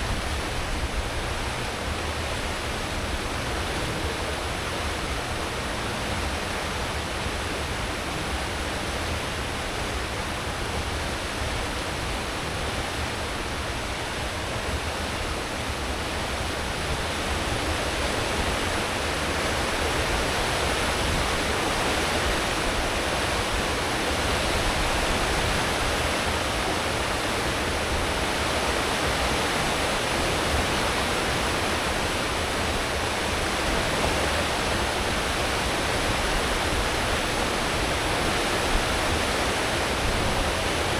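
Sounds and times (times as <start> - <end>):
low rumble of ship engines: 0.0 - 40.9
ship wake water churning: 0.0 - 40.9.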